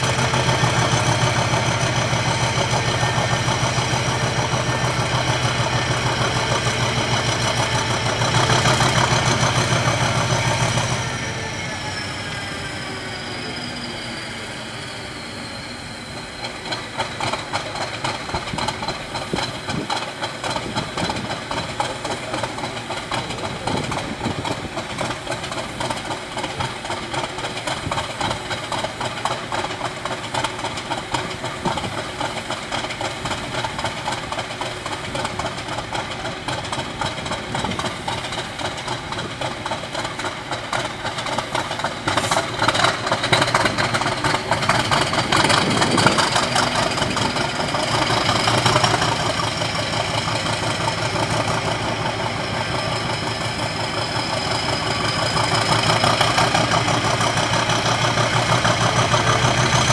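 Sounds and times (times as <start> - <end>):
diesel locomotive engine idling: 0.0 - 59.9.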